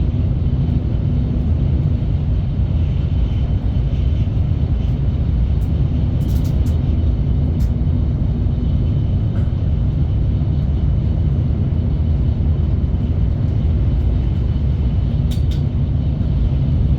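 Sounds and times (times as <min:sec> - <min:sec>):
low rumble of moving train: 0:00.0 - 0:16.9.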